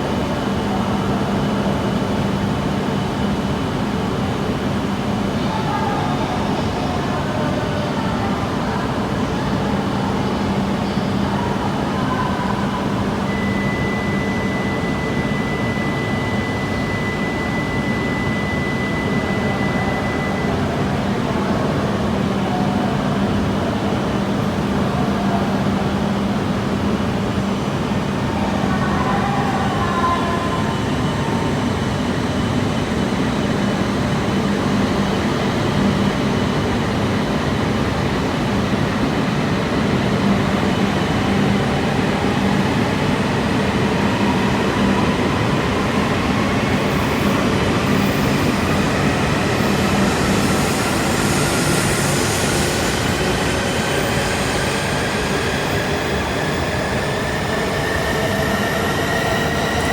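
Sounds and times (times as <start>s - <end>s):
trains humming and rumbling: 0.0s - 59.9s.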